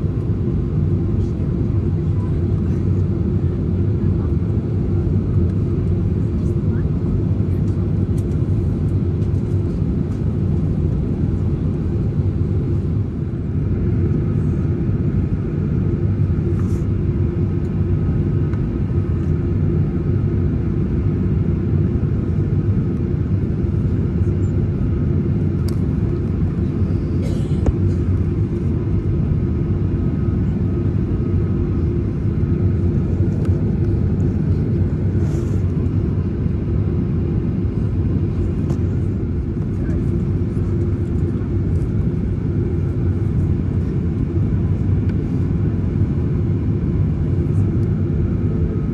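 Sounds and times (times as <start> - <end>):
constant hum: 0.0 - 48.9
engine and airflow rumble: 0.0 - 48.9.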